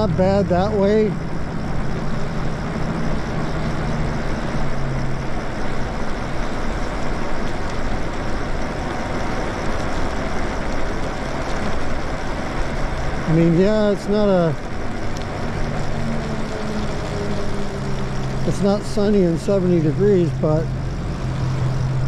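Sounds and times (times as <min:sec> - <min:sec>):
tyres on wet pavement: 0:00.0 - 0:22.0.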